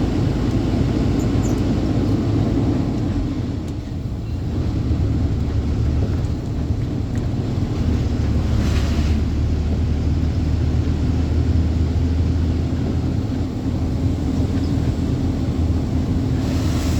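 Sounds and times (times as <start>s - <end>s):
road and wind noise: 0.0s - 16.9s
truck engine drone: 0.0s - 16.9s.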